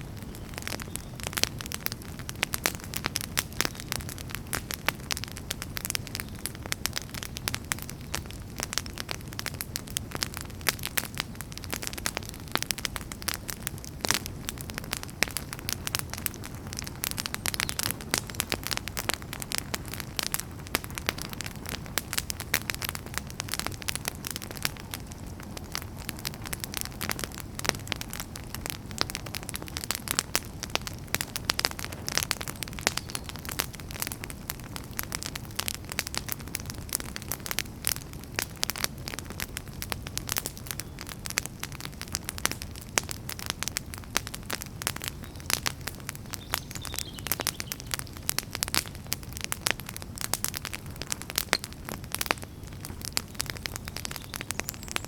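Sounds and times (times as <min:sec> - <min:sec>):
low rush of flames: 0:00.0 - 0:46.6, 0:47.2 - 0:55.0
fire crackling and popping: 0:00.0 - 0:55.0.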